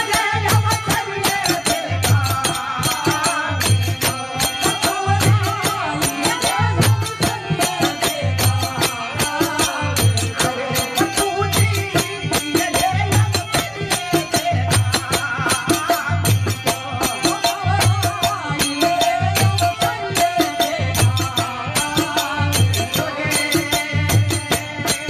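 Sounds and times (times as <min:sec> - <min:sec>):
harmonium: 0:00.0 - 0:25.0
man singing: 0:00.0 - 0:25.0.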